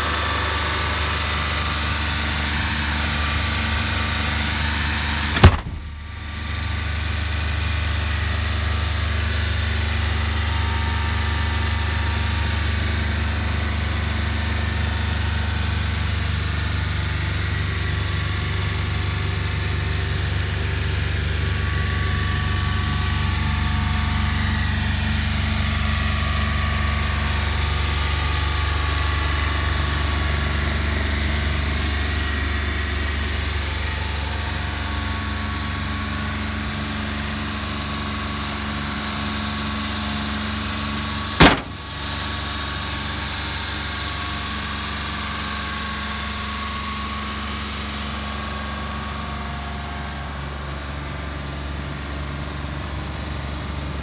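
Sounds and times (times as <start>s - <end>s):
truck engine idling: 0.2s - 54.0s.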